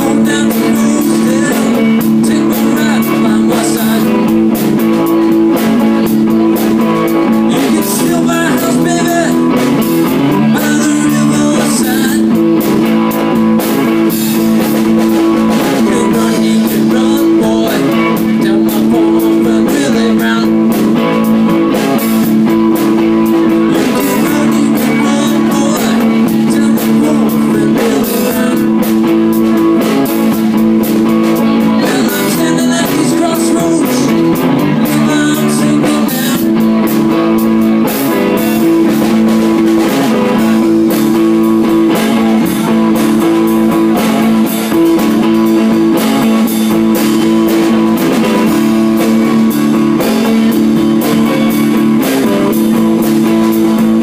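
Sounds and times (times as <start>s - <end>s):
drum kit beat: 0.0s - 54.0s
electric guitar low notes: 0.0s - 54.0s.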